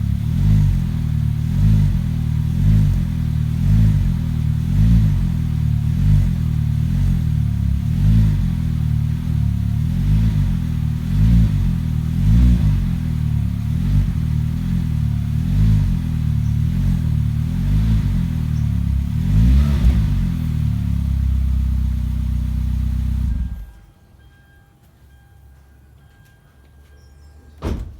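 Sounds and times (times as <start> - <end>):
car exhaust idling with throttle blips: 0.0 - 23.9.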